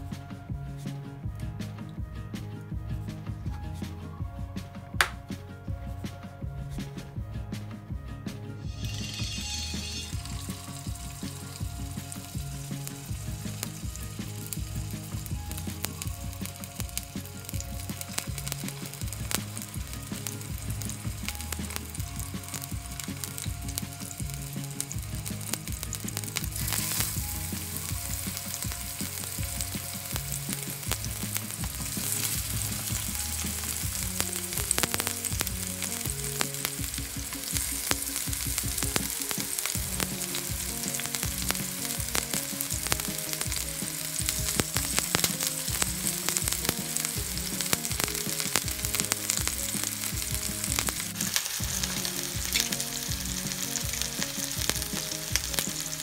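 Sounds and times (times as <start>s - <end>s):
background music: 0.0s - 56.0s
peppers sizzling in hot oil: 8.6s - 56.0s.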